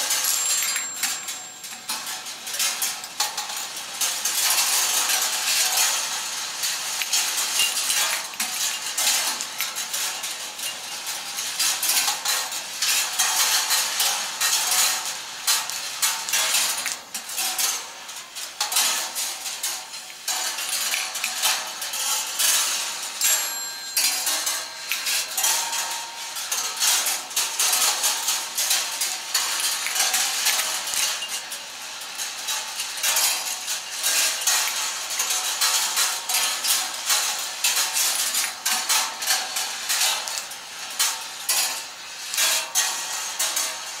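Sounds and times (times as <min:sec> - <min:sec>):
metal balls clicking on rails: 0:00.0 - 0:44.0.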